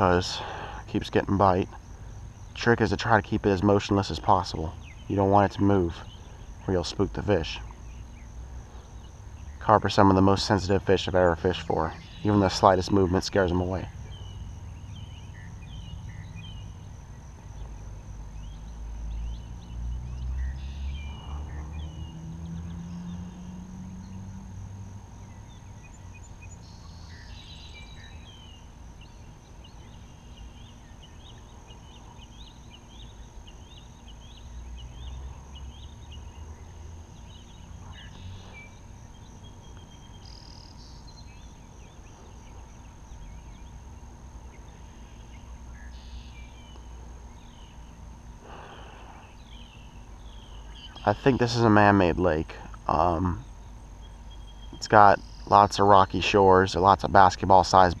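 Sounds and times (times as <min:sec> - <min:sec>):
faint high-pitched whine: 0:00.0 - 0:58.0
small birds chirping: 0:00.0 - 0:58.0.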